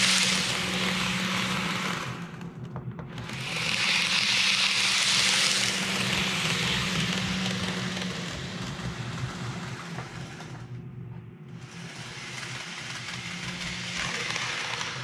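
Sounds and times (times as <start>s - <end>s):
model train wheels rattling: 0.0s - 2.3s, 3.2s - 10.7s, 11.6s - 15.0s
model train hum: 0.0s - 2.4s, 3.2s - 10.7s, 11.6s - 15.0s.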